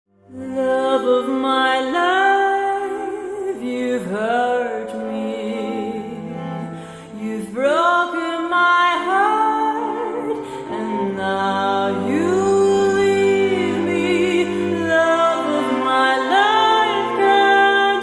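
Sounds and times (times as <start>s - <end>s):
quiet steady accompaniment: 0.3s - 18.0s
woman singing a slow ballad: 0.3s - 18.0s.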